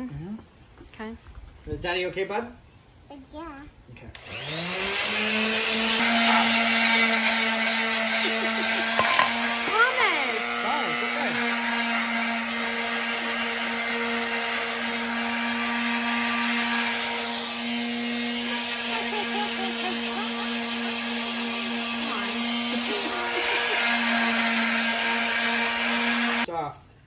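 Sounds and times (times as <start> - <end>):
electric sander humming: 4.2 - 26.5.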